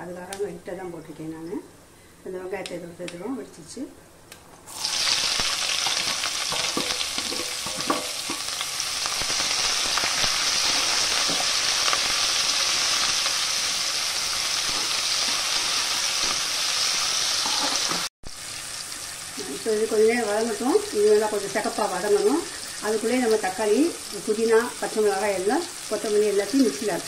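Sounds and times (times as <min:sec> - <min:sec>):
onions sizzling in hot oil: 0:04.7 - 0:27.0.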